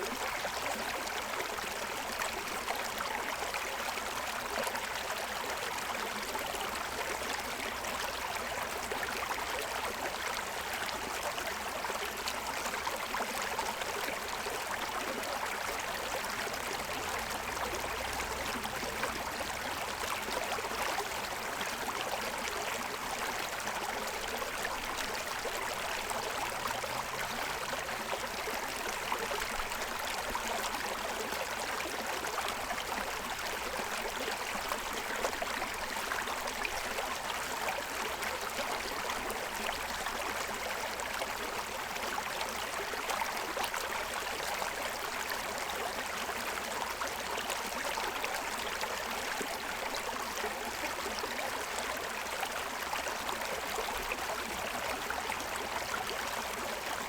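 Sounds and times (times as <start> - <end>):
stream running over stones: 0.0 - 57.0.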